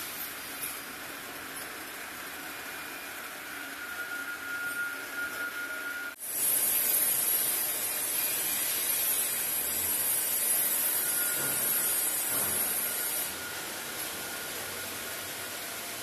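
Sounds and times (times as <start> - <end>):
conveyor machine hiss: 0.0 - 16.0.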